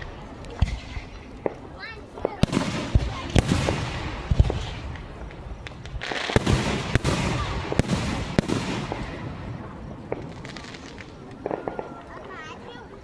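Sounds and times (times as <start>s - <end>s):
fireworks bangs: 0.0s - 12.7s
fireworks crackling: 0.0s - 13.0s.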